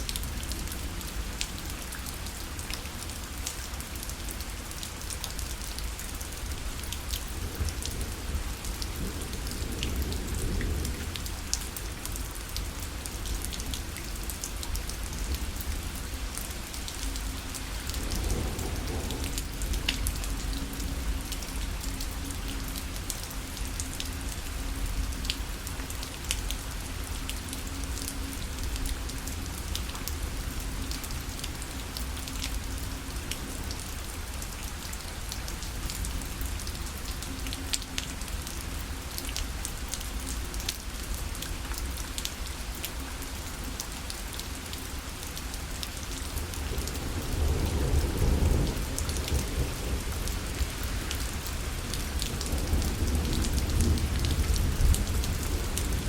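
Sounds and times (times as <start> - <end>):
rain drops ticking on a parasol: 0.0 - 56.0.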